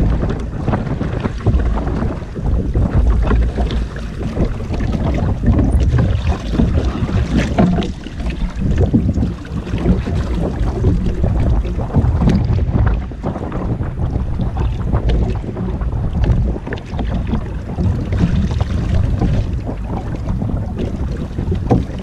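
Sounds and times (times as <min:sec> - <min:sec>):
water splashing against boat hull: 0:00.0 - 0:22.0
wind buffeting microphone: 0:00.0 - 0:22.0.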